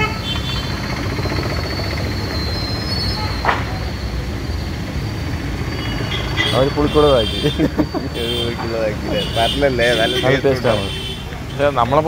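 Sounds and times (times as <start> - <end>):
passing motor traffic rumble: 0.0 - 12.0.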